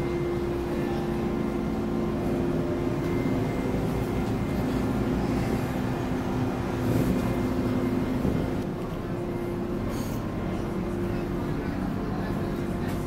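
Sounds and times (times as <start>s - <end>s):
bus diesel engine drone: 0.0s - 13.0s
road rumble: 0.0s - 13.0s.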